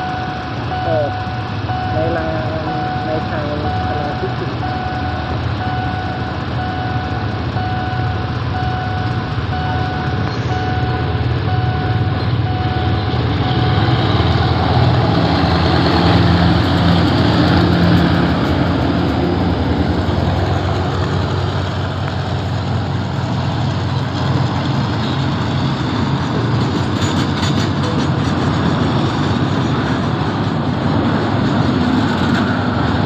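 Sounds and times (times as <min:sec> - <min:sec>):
diesel locomotive engine running: 0:00.0 - 0:33.0
train wheels rolling on rails: 0:04.3 - 0:33.0.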